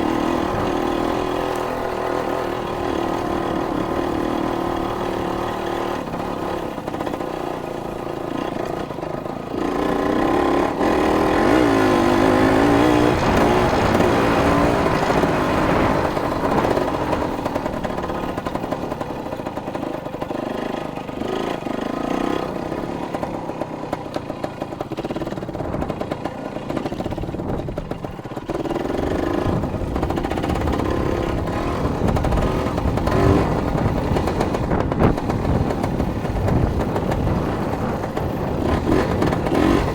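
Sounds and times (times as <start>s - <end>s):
dirt bike engine revving: 0.0s - 23.9s, 26.6s - 39.9s.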